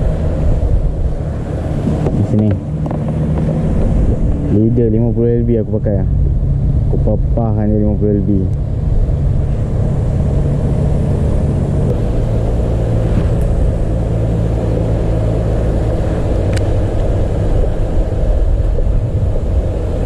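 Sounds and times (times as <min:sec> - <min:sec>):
low rumble: 0:00.0 - 0:20.0
motor drone: 0:00.0 - 0:20.0.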